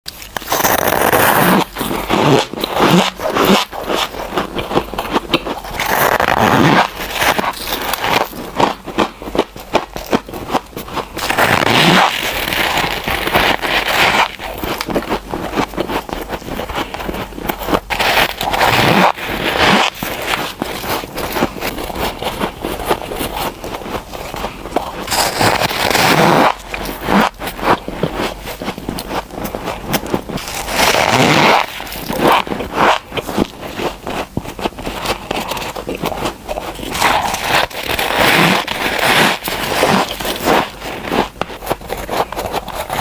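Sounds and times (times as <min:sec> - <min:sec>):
frost crunching as chewed: 0:00.1 - 0:43.0.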